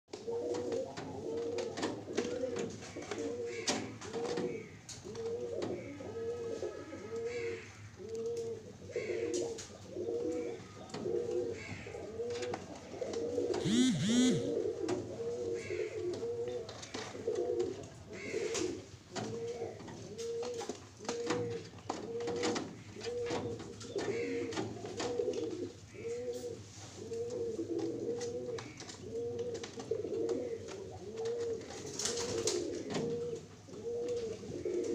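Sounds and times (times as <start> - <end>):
pigeons cooing: 0.1 - 34.9.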